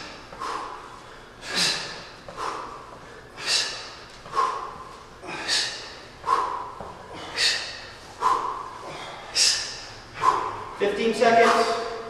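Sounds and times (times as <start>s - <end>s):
soft short breaths: 0.0s - 10.8s
sharp forceful breaths: 0.0s - 12.0s.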